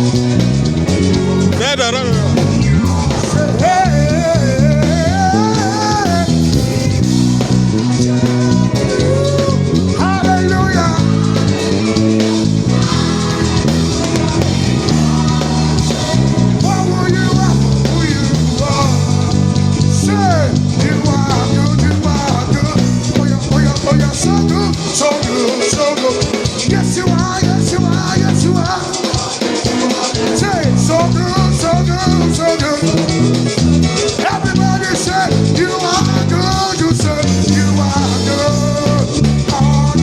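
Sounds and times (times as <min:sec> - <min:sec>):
electric bass guitar: 0:00.0 - 0:40.0
gospel band playing: 0:00.0 - 0:40.0
voices singing: 0:00.0 - 0:40.0.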